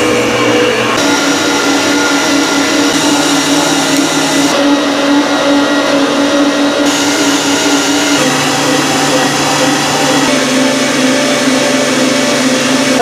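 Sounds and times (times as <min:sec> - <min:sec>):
stand mixer motor grinding meat: 0:00.0 - 0:13.0.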